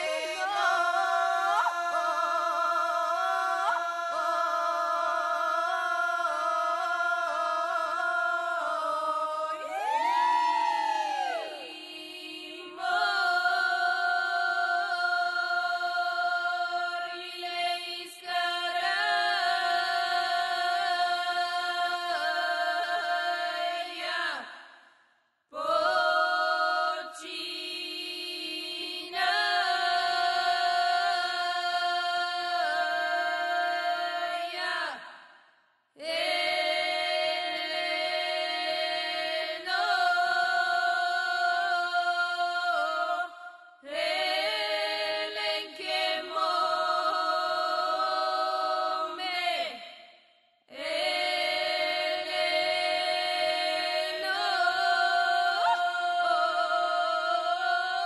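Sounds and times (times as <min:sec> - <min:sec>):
women singing folk song unaccompanied: 0:00.0 - 0:24.9, 0:25.5 - 0:50.1, 0:50.7 - 0:58.0.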